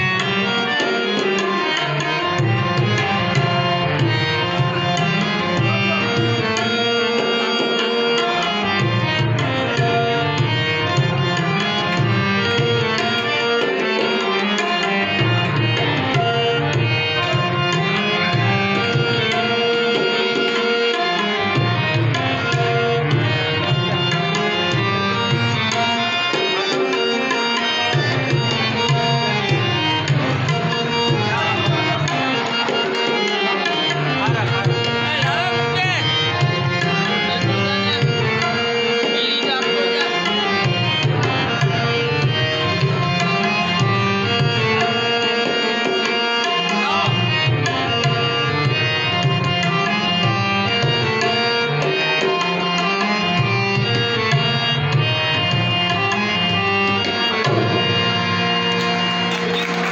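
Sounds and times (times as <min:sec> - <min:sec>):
harmonium melody: 0:00.0 - 0:59.9
tabla: 0:00.0 - 0:59.9.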